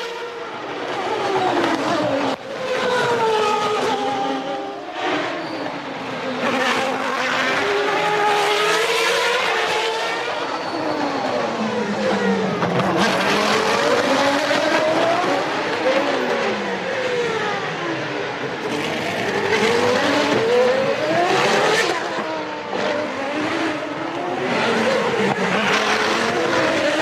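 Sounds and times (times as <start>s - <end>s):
racing car engines revving past: 0.0s - 27.0s.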